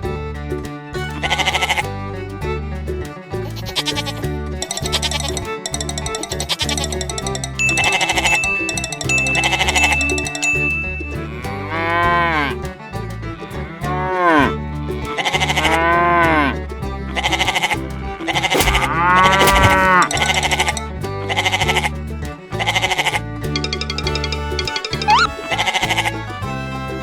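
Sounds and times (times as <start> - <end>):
background music with steady beat: 0.0 - 27.0.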